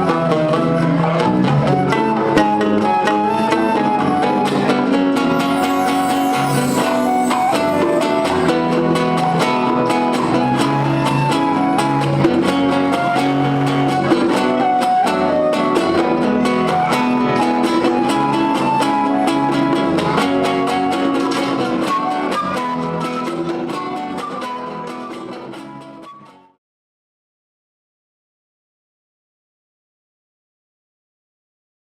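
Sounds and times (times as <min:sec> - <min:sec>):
cuban band music: 0:00.1 - 0:26.3.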